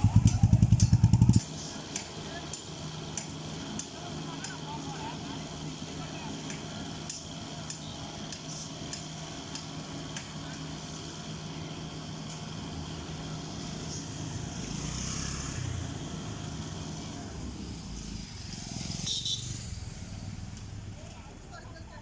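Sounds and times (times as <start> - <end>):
vehicle engine running: 0.0 - 4.3, 4.9 - 22.0.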